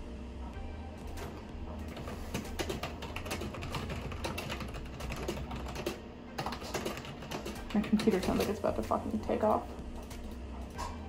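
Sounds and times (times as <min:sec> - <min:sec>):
fast keyboard typing: 0:01.1 - 0:10.4.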